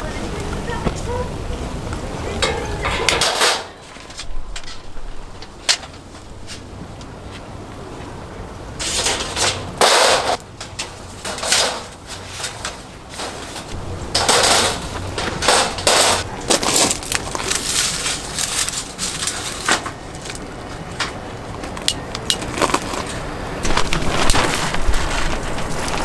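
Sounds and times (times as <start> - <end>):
rustling scrapes: 2.4 - 7.6, 8.8 - 21.7, 22.4 - 26.0.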